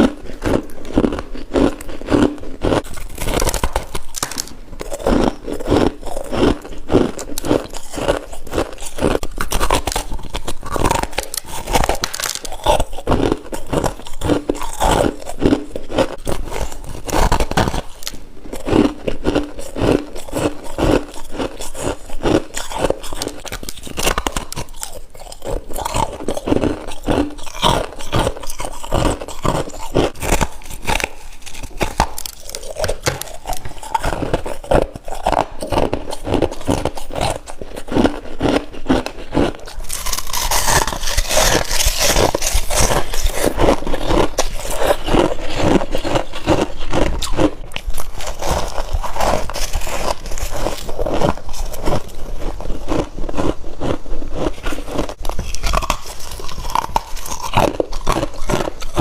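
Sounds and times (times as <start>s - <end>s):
frost being chewed: 0.0s - 59.0s.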